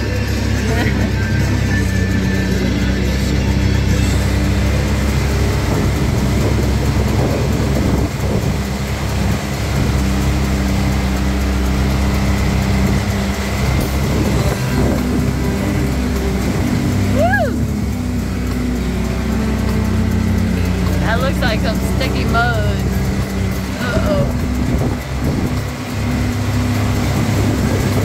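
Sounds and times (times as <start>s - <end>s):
utility vehicle engine running: 0.0s - 28.0s
water and mud churning: 0.0s - 28.0s.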